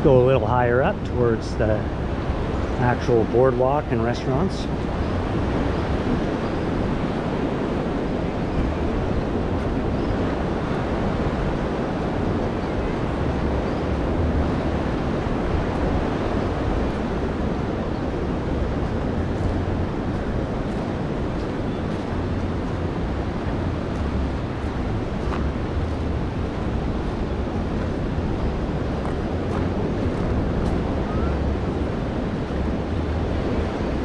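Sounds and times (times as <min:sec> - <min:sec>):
ocean surf on beach: 0:00.0 - 0:34.0
wind on microphone: 0:00.0 - 0:34.0.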